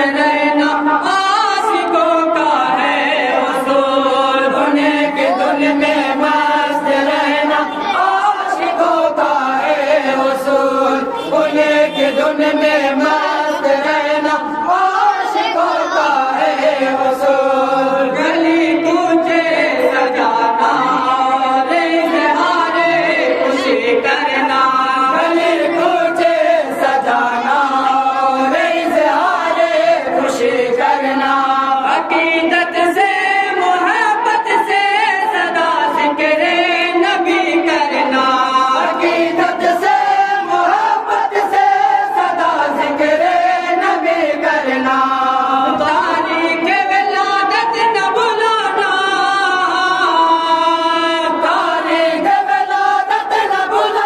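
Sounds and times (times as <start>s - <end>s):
men singing in unison: 0.0s - 54.0s.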